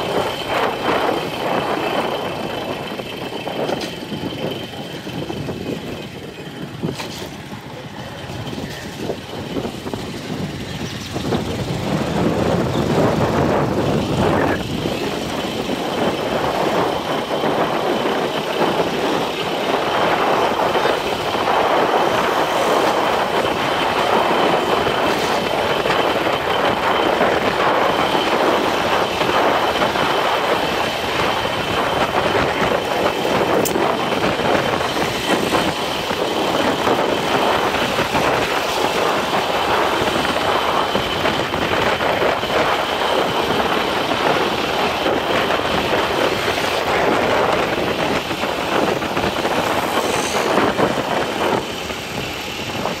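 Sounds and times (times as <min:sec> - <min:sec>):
motorcycle engine and road noise: 0:00.0 - 0:53.0.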